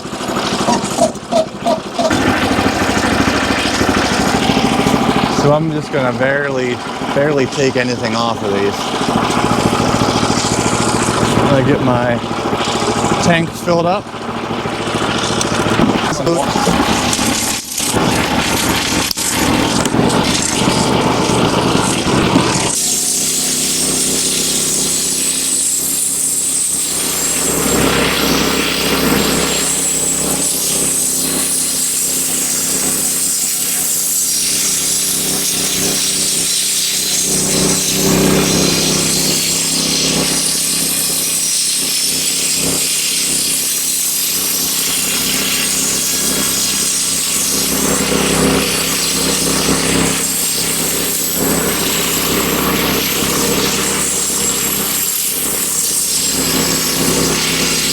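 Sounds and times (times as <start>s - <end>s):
saw blade cutting wood: 0.0s - 12.0s, 15.2s - 57.9s
engine hum: 0.0s - 57.9s.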